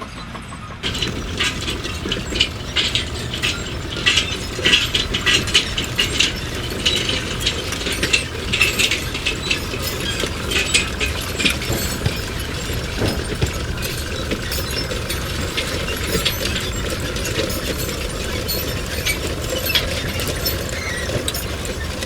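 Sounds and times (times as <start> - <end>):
mechanical clicking and clattering: 0.8 - 22.0.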